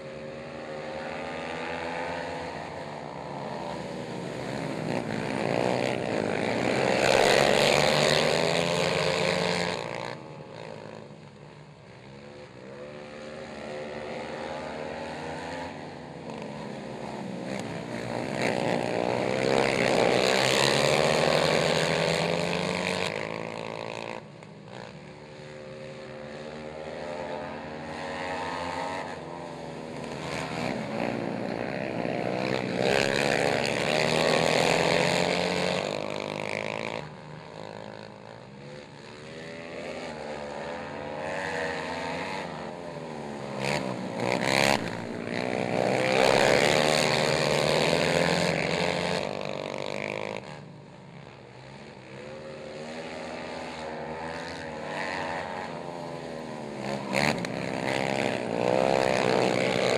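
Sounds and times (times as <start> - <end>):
quad atv engines revving: 0.0 - 59.9.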